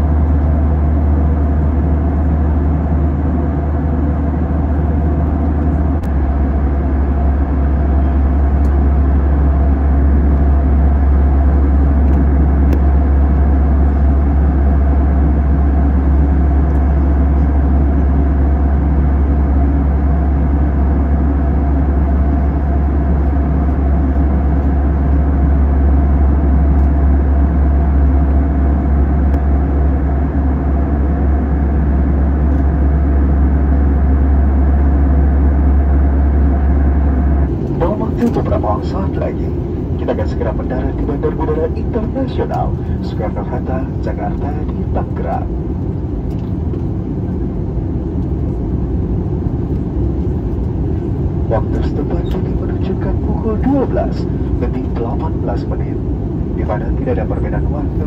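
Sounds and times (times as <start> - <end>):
airplane cabin engine drone: 0.0 - 58.0.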